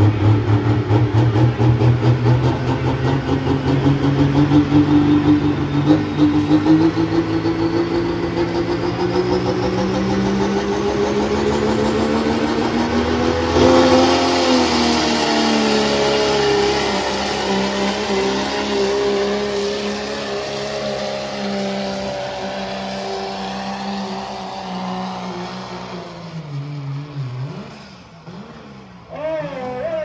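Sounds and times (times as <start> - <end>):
diesel truck engine at full throttle: 0.0 - 30.0.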